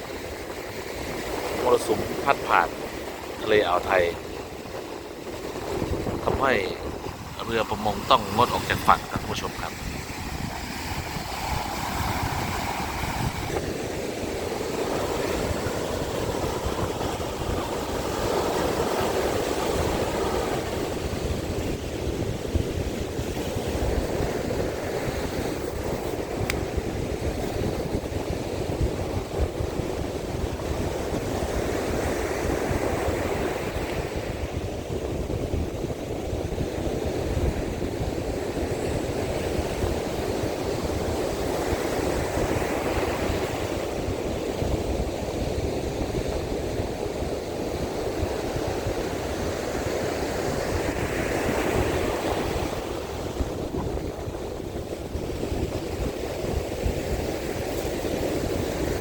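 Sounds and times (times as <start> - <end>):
surf breaking on beach: 0.0 - 59.0
wind rumbling on microphone: 0.0 - 59.0.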